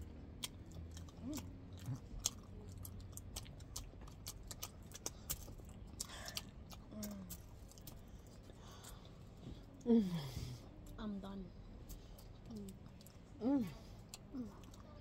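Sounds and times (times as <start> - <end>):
chewing sweets: 0.0 - 15.0.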